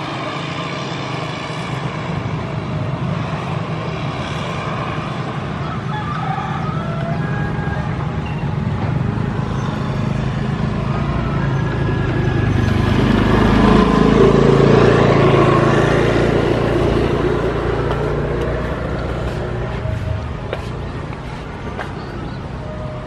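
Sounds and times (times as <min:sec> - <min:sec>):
vehicle engine hum passing: 0:00.0 - 0:23.0.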